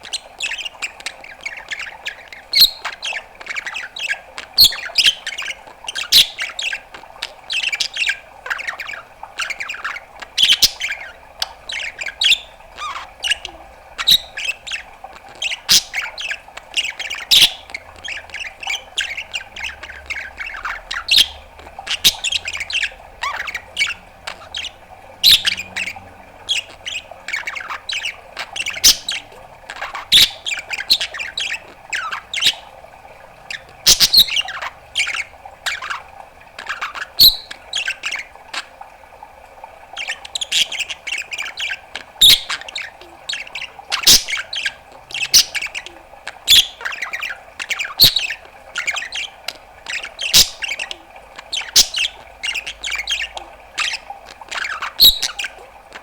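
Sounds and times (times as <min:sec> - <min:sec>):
budgerigar chattering: 0:00.0 - 0:32.7, 0:33.5 - 0:38.8, 0:40.0 - 0:56.0.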